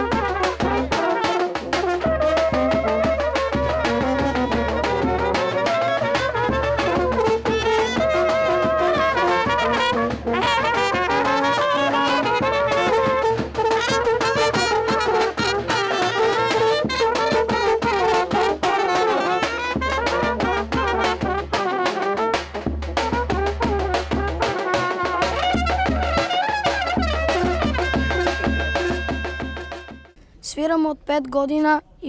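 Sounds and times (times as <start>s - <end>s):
brass band playing: 0.0s - 30.2s
trumpet leading: 0.0s - 30.2s.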